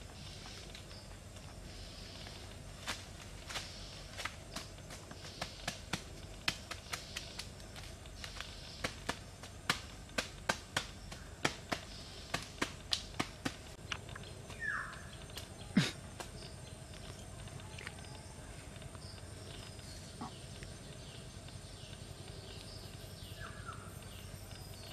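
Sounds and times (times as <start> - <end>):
banana leaf strips crackling: 0.4 - 23.9.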